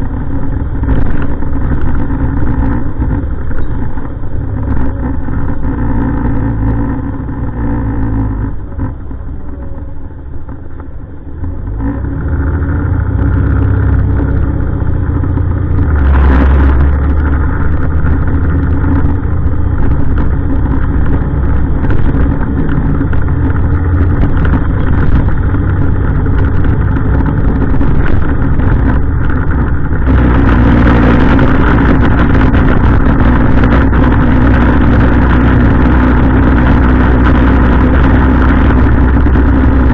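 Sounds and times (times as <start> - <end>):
heavy truck engine pulling away: 0.0 - 39.9.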